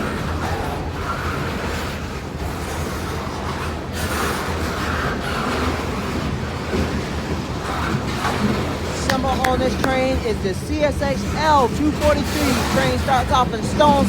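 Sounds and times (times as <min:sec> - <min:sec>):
freight train rumbling: 0:00.0 - 0:14.0
train rushing noise: 0:00.0 - 0:14.0.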